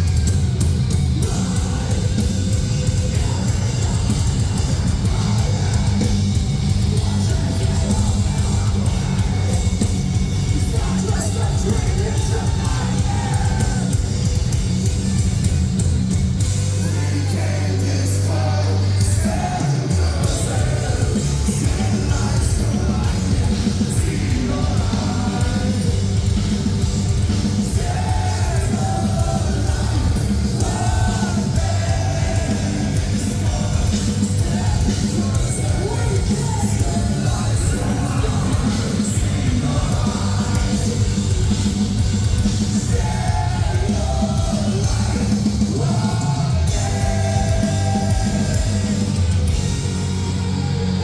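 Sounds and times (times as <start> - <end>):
vocalist singing and screaming: 0.0 - 15.0, 16.4 - 51.0
live metal band playing: 0.0 - 51.0.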